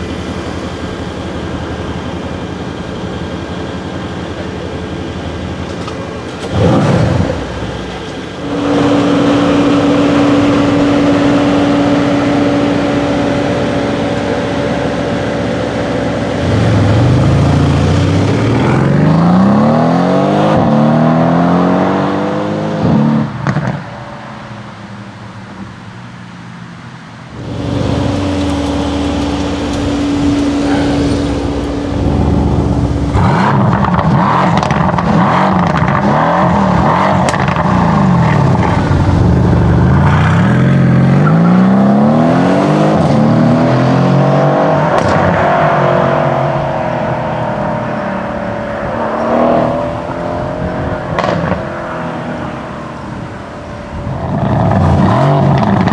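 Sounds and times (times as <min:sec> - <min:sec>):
car engine accelerating: 0:00.0 - 0:24.4, 0:27.3 - 0:55.9.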